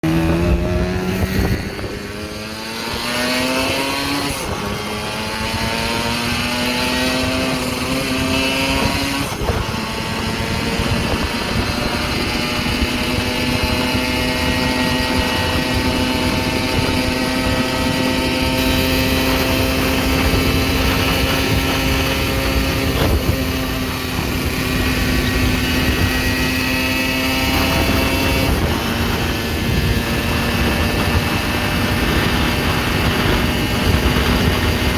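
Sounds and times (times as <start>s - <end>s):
two-stroke moped engine revving: 0.0s - 34.9s.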